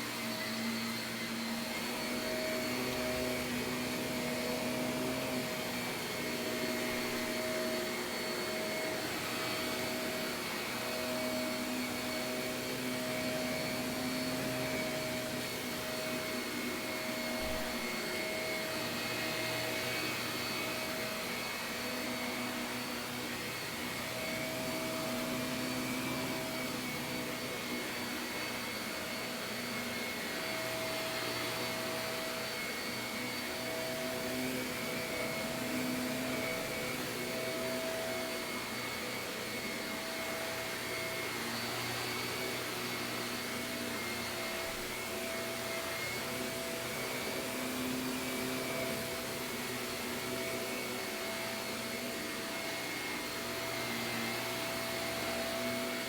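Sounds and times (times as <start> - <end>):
vacuum cleaner on carpet: 0.0 - 56.0.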